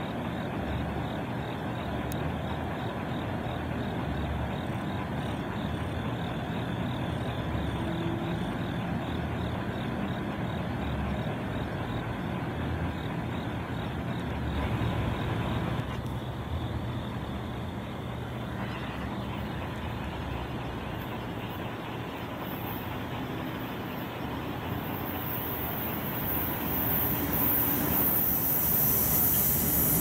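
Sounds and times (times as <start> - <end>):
diesel locomotive rumble: 0.0 - 30.0.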